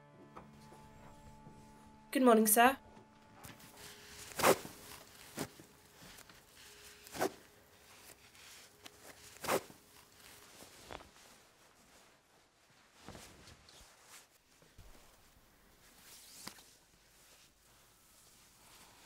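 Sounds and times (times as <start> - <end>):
clothing rustling swishes: 3.5 - 19.0.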